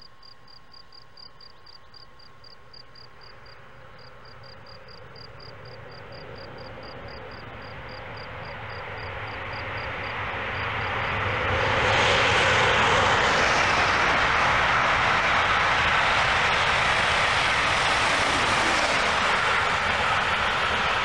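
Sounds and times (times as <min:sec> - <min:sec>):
high-speed train passing: 0:00.2 - 0:21.0.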